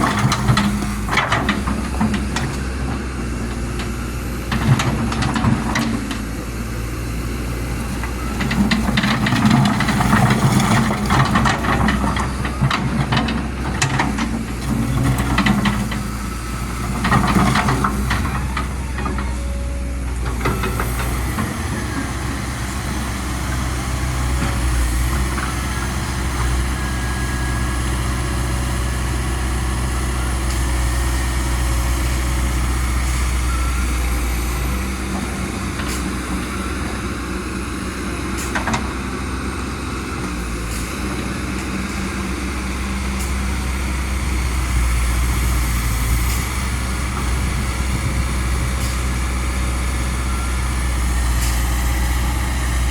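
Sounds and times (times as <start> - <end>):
excavator diesel engine drone: 0.0 - 52.9.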